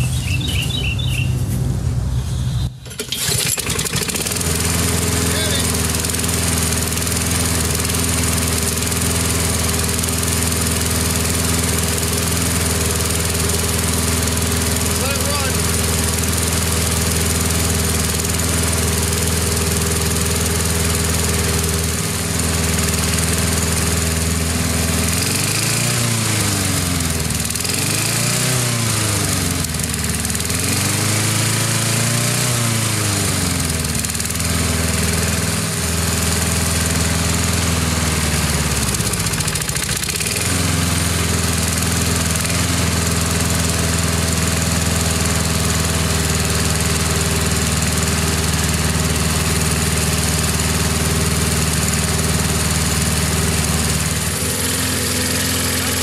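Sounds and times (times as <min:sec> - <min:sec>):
lawn mower engine revving: 0:00.0 - 0:56.0.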